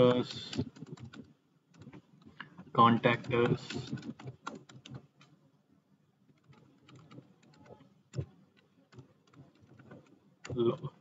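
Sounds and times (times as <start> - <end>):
computer keys clicking: 0.0 - 2.0, 3.0 - 5.3, 6.4 - 10.9.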